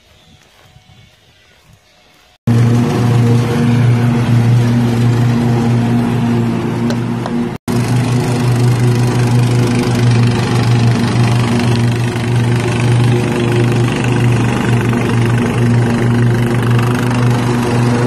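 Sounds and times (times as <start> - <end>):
ride-on lawn mower engine: 2.5 - 18.0.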